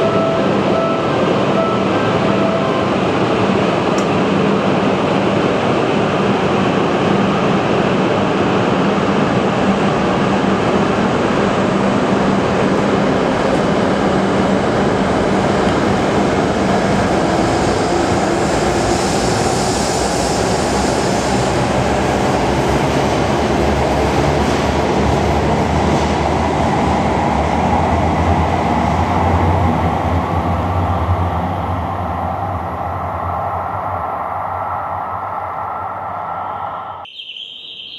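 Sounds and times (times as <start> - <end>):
train wheel and air rush: 2.8 - 37.0.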